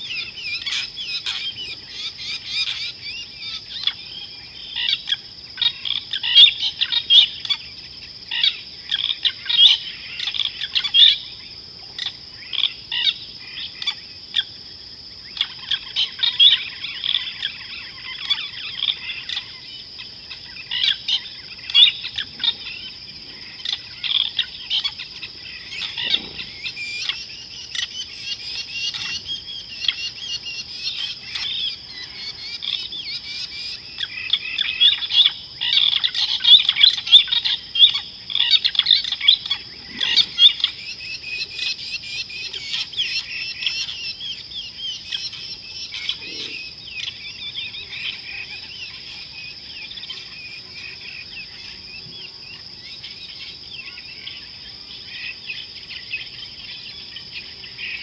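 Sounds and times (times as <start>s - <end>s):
wild birds chirping and calling: 0.0s - 58.0s.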